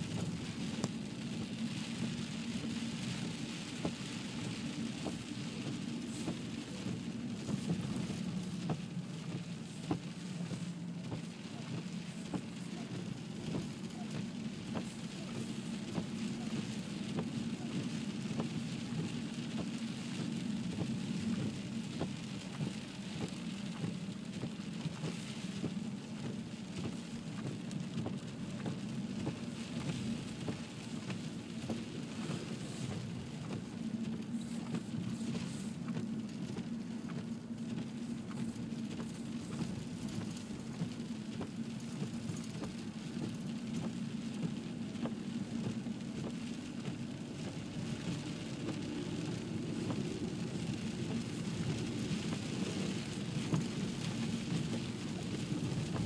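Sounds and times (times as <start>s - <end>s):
car engine and tyres droning: 0.0s - 56.0s
snow crackling under wheels: 0.0s - 56.0s.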